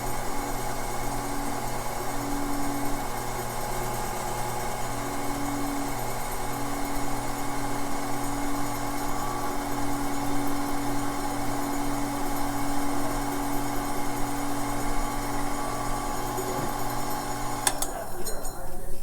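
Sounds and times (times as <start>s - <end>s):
machine motor hum: 0.1s - 18.3s.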